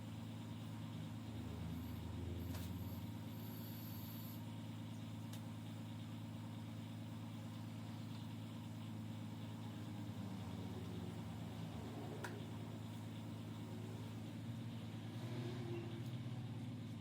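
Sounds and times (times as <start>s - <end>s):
steady low machine hum: 0.0s - 17.0s.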